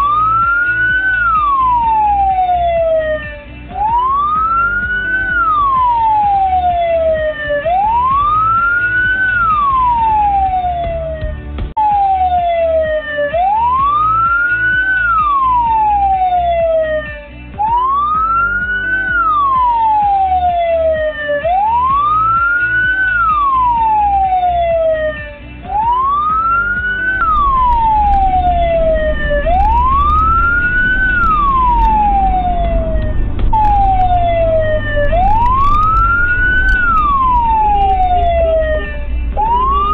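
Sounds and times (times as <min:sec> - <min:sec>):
electronic siren wailing: 0:00.0 - 0:39.9
engine and road rumble: 0:00.0 - 0:39.9.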